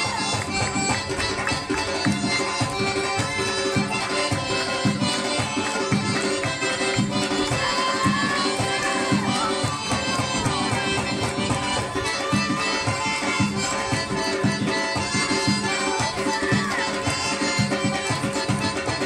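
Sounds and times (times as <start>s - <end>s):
drum beating fast rhythm: 0.0s - 19.0s
held melody line: 0.0s - 19.0s.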